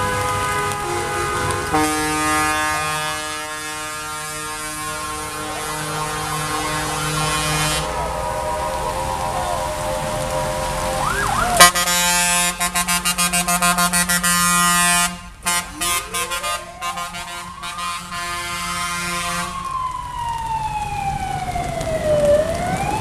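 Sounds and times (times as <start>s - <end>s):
wailing siren: 0.0s - 12.7s, 15.5s - 23.0s
buzzing horn pulses: 0.0s - 19.6s.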